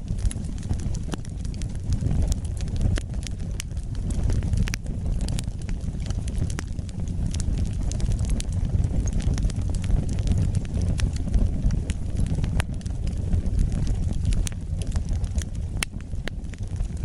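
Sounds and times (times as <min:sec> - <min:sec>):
fire crackling and popping: 0:00.0 - 0:17.0
low rumble of flame: 0:00.0 - 0:17.0.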